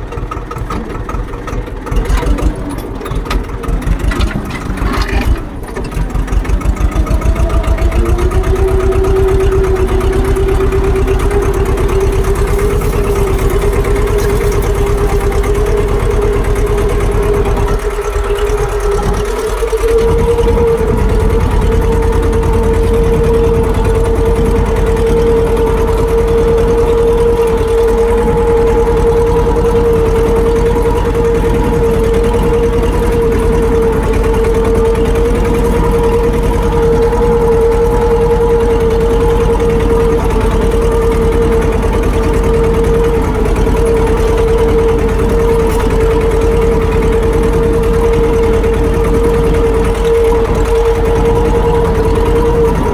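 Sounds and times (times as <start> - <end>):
tractor engine droning: 0.0 - 52.9.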